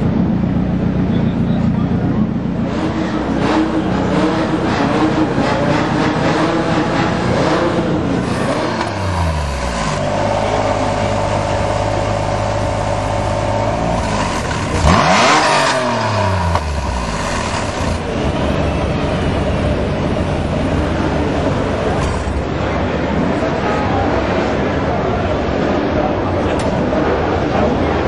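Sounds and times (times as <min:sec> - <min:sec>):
car engine revving: 0:00.0 - 0:23.7.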